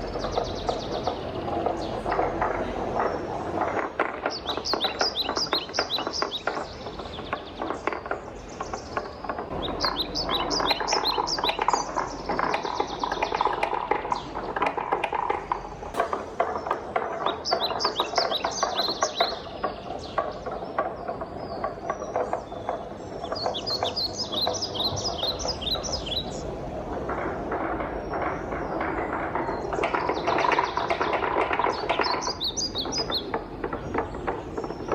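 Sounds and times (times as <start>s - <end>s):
bird chirping: 0.0s - 26.6s, 27.8s - 34.9s
wooden balls rolling down marble run: 0.0s - 34.9s.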